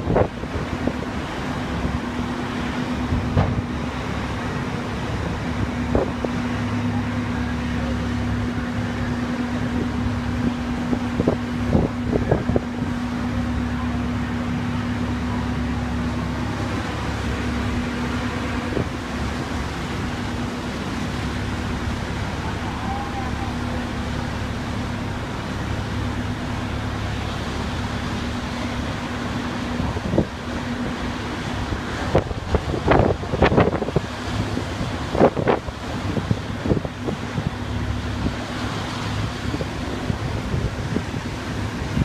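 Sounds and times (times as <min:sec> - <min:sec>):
fire truck engine running: 0:00.0 - 0:42.0.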